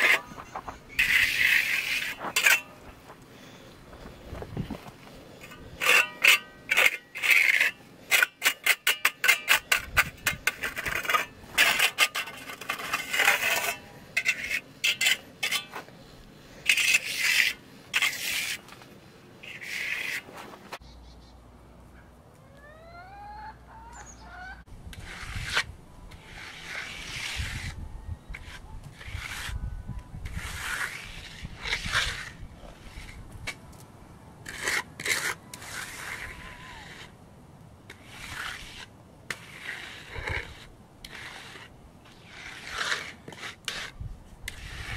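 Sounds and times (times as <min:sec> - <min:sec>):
float scraping wet concrete: 0:00.0 - 0:20.8, 0:24.9 - 0:29.6, 0:30.2 - 0:33.6, 0:34.4 - 0:37.2, 0:37.9 - 0:44.9.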